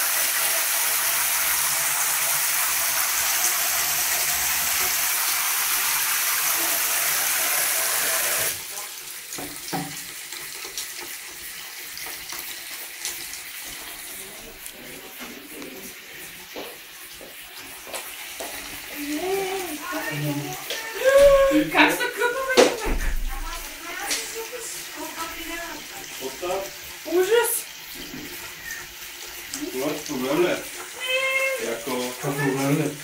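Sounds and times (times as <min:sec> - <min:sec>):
water spraying into basin: 0:00.0 - 0:33.0.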